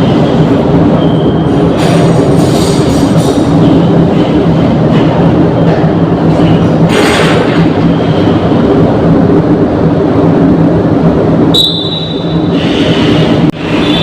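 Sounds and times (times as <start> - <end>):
loud mechanical rumble: 0.0 - 14.0.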